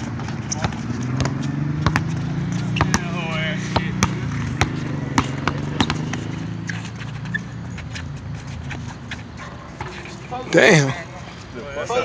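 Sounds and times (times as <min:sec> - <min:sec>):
basketball bouncing: 0:00.0 - 0:10.0
sneakers striking asphalt court: 0:00.0 - 0:11.1.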